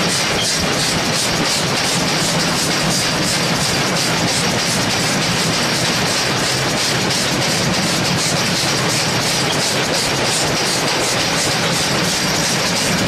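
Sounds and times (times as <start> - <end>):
pulsing hiss of steam: 0.0 - 13.0
wheels running on rails: 0.0 - 13.0.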